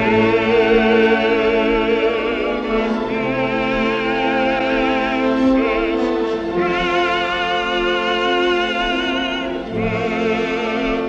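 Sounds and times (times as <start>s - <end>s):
operatic classical music held chord: 0.0s - 11.0s.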